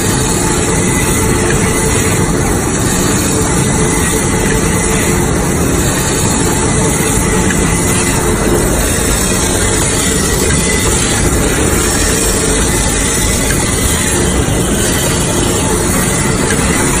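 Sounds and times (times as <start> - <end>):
paper slitting machine running: 0.0 - 17.0.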